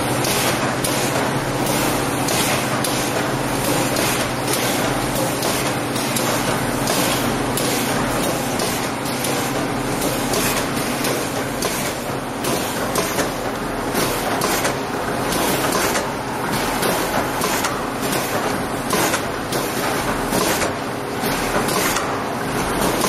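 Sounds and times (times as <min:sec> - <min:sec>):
steady machine hum: 0:00.0 - 0:23.0
machine clacking rapidly: 0:02.2 - 0:23.0.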